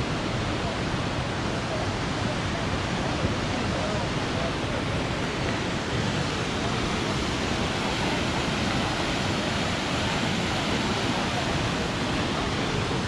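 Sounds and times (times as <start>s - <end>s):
fast-flowing creek water rushing: 0.0s - 13.0s.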